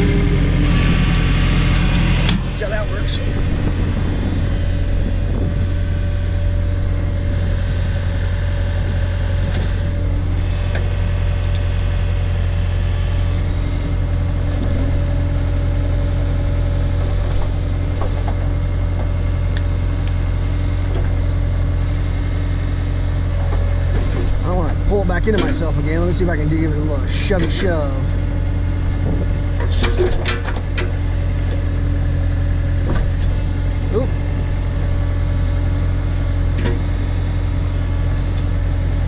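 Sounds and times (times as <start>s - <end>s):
backhoe engine droning: 0.0s - 39.0s.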